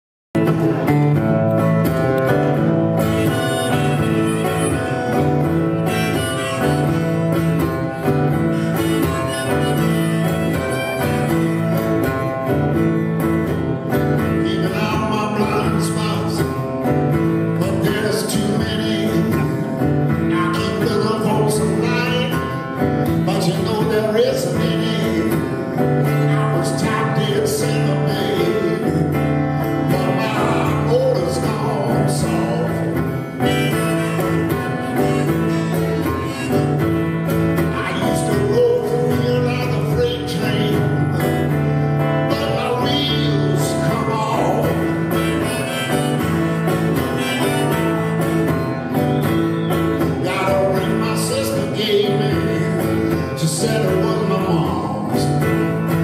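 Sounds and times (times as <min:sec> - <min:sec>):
acoustic guitar strumming: 0:00.4 - 0:56.0.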